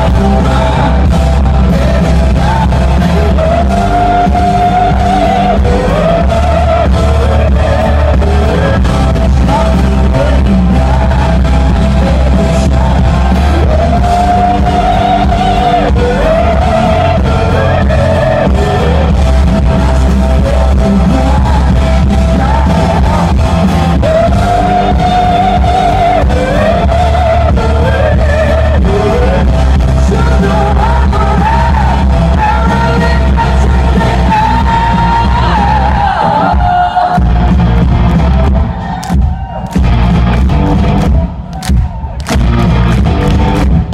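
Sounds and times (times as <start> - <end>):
person singing: 0.0 - 37.4
heavy booming bass: 0.0 - 43.9
live rock band playing: 0.0 - 43.9.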